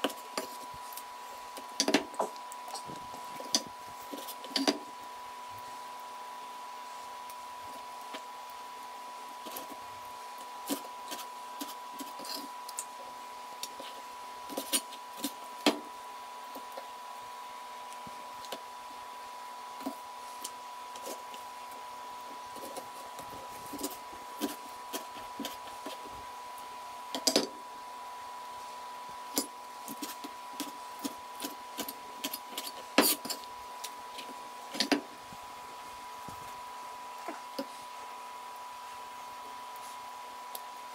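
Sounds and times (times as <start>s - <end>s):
steady high-pitched hum: 0.0s - 40.9s.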